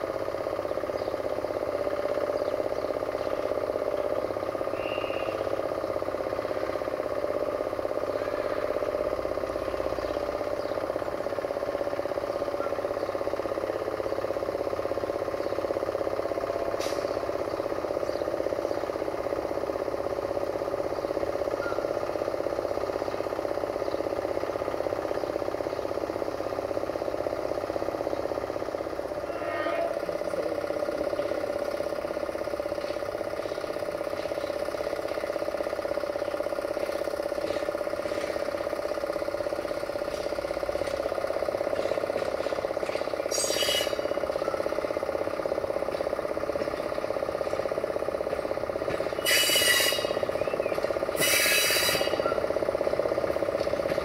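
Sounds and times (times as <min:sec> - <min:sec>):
locomotive engine humming: 0:00.0 - 0:54.0.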